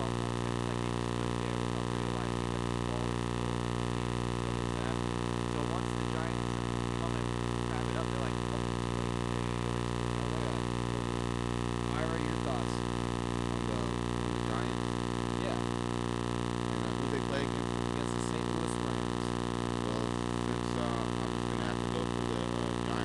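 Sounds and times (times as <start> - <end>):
faint men's voices talking: 0.0 - 11.2, 11.9 - 12.8, 13.4 - 14.8, 15.4 - 15.6, 16.7 - 23.0
steady electrical hum: 0.0 - 23.0.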